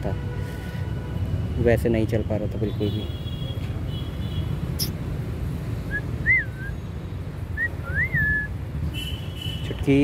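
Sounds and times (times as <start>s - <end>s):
distant traffic hum: 0.0s - 10.0s.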